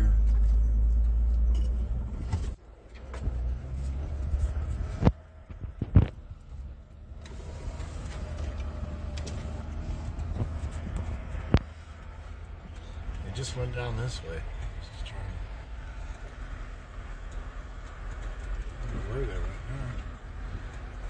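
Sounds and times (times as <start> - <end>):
engine and tyre rumble: 0.0 - 21.0.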